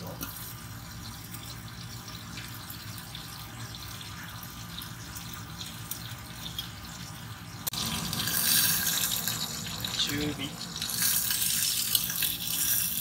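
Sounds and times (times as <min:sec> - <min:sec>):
meat sizzling in oil: 0:00.0 - 0:13.0
oil spattering crackles: 0:01.2 - 0:13.0.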